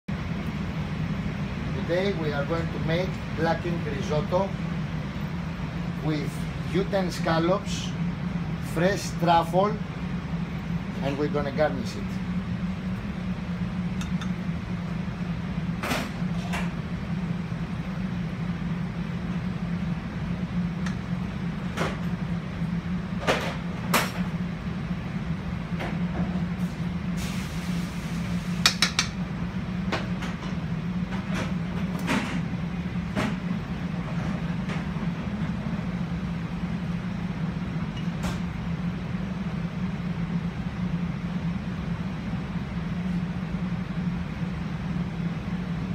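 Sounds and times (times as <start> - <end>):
kitchen equipment humming: 0.2 - 39.2.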